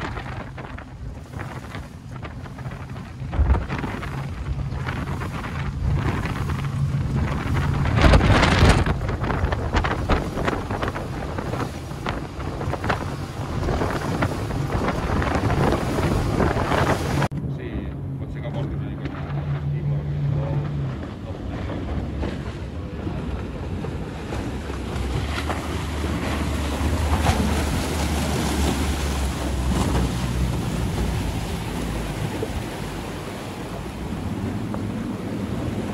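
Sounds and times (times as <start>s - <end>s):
outboard engines droning: 0.0s - 35.9s
water rushing under hull: 0.0s - 35.9s
wind buffeting microphone: 0.0s - 35.9s.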